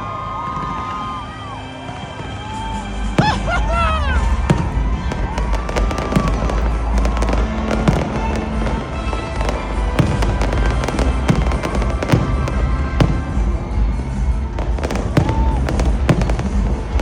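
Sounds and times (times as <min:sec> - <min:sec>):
fireworks bangs and crackles: 0:00.0 - 0:17.0
fireworks whistling: 0:00.5 - 0:17.0
music with deep bass: 0:01.4 - 0:17.0.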